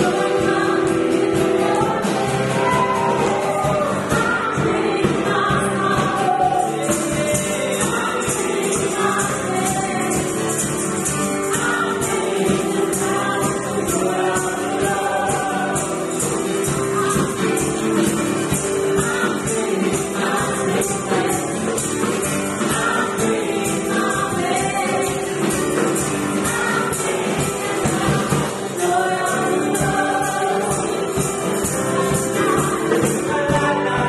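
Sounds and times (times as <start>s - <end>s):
group singing: 0.0s - 34.0s
tambourine beat: 0.0s - 34.0s.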